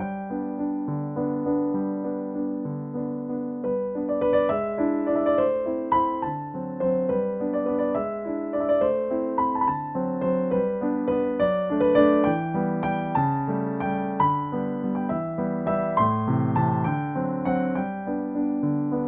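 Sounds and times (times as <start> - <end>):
soft piano piece: 0.0 - 19.0.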